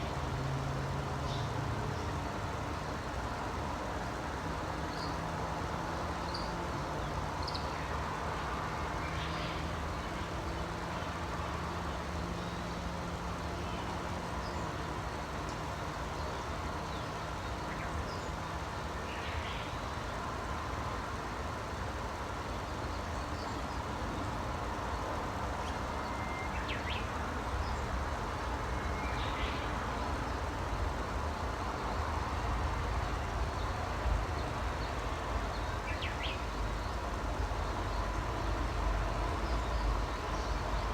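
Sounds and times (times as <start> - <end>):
low rumble of distant vehicles: 0.0 - 40.9.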